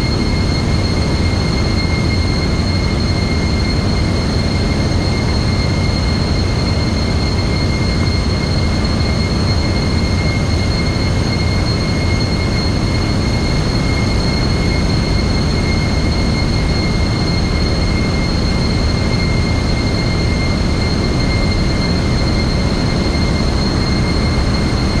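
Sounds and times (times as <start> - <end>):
deep engine room rumble: 0.0 - 25.0
high-pitched machinery whine: 0.0 - 25.0.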